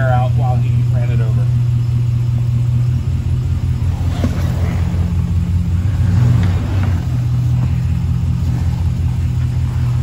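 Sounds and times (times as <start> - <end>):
pickup engine idling rumble: 0.0 - 10.0.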